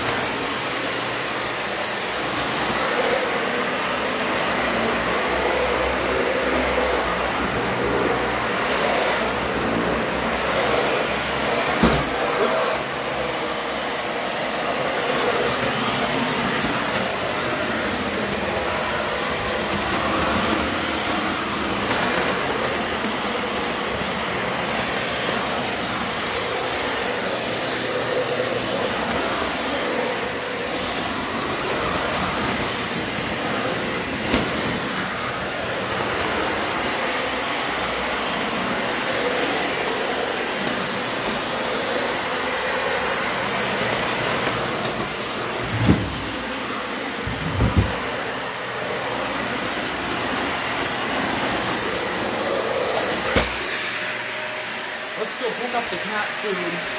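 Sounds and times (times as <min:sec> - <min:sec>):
upright vacuum cleaner running: 0:00.0 - 0:56.9.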